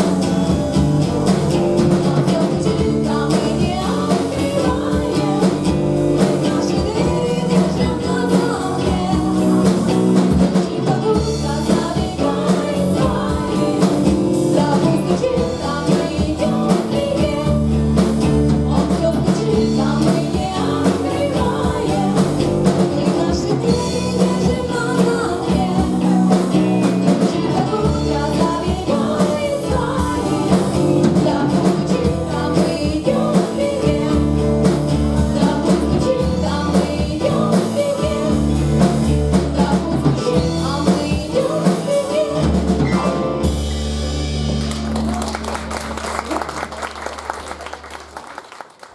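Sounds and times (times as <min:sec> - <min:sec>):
person singing: 0:00.0 - 0:43.5
live rock band: 0:00.0 - 0:48.9.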